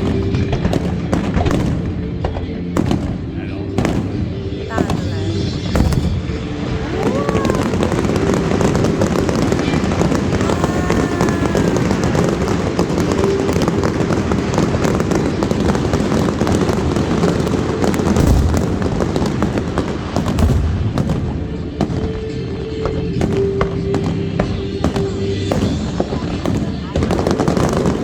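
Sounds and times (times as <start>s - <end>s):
deep fireworks booms: 0.0s - 28.0s
fireworks crackling and popping: 2.8s - 28.0s.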